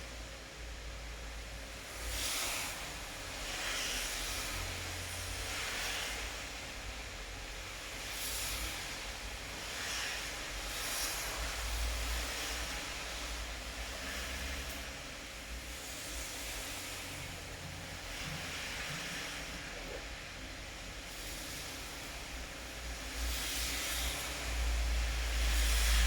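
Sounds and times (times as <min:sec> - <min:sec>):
steady rain falling: 0:01.2 - 0:26.0.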